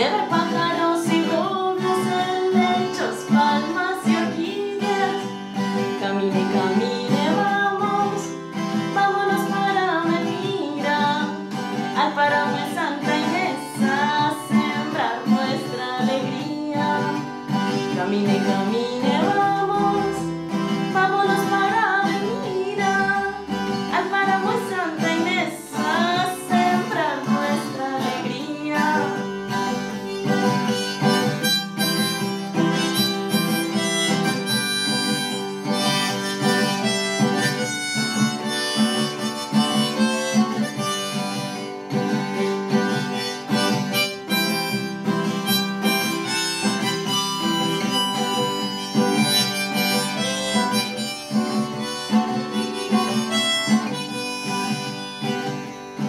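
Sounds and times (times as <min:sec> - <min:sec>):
harmonica melody: 0:00.0 - 0:56.0
strummed acoustic guitar: 0:00.0 - 0:56.0.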